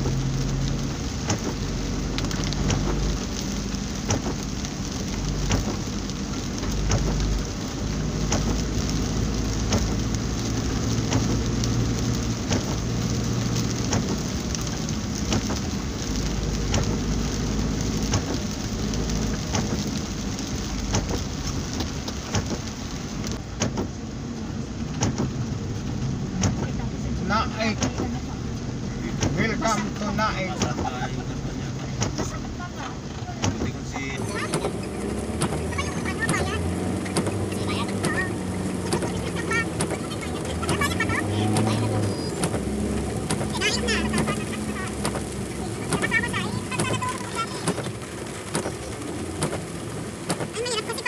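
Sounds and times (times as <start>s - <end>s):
engine and tyre hum: 0.0s - 51.0s
rain hissing on car roof: 0.0s - 51.0s
raindrop taps: 0.0s - 51.0s.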